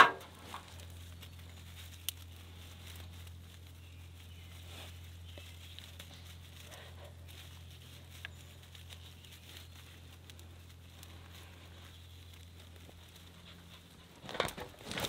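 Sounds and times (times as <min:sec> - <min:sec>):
dry twigs crinkling and crackling: 0:00.0 - 0:15.0
steady low hum: 0:00.0 - 0:15.0.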